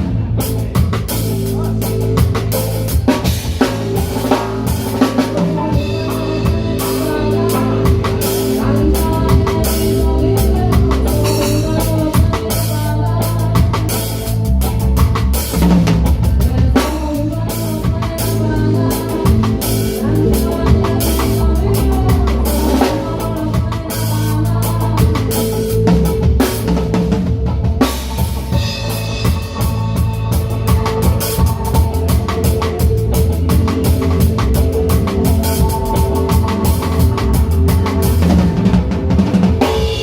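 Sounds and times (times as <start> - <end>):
drum kit: 0.0 - 40.0
reggae band playing: 0.0 - 40.0.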